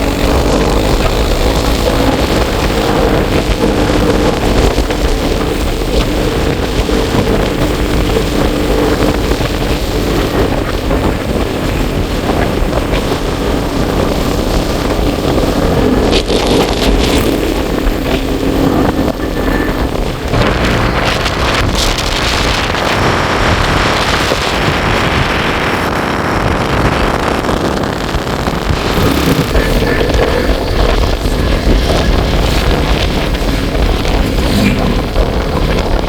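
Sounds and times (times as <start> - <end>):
road noise: 0.0 - 36.0
vehicle engine running: 0.0 - 36.0
wind buffeting microphone: 0.0 - 36.0.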